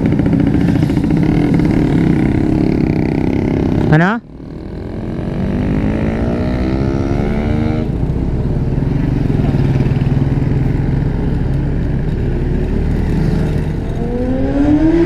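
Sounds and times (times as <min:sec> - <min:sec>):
motorcycle engine accelerating: 0:00.0 - 0:15.0
road and wind rush: 0:00.0 - 0:15.0.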